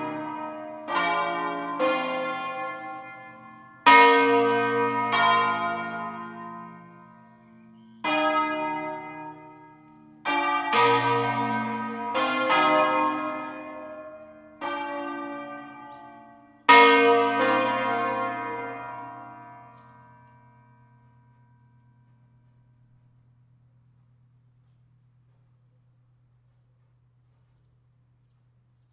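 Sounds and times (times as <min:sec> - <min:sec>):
church bells ringing: 0:00.0 - 0:24.3.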